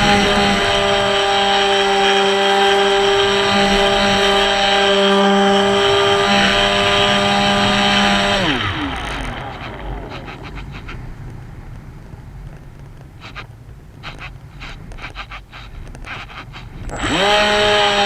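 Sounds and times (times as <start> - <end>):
electric motor and propeller whine: 0.0 - 18.0.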